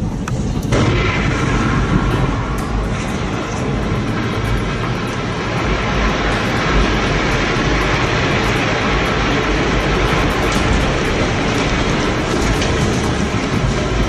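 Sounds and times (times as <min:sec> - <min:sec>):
heavy rumbling: 0:00.0 - 0:14.0
explosion blast: 0:00.7 - 0:14.0.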